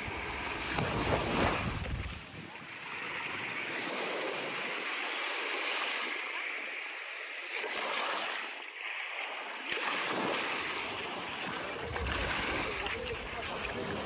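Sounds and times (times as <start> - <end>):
waves washing onto sand: 0.0 - 14.0.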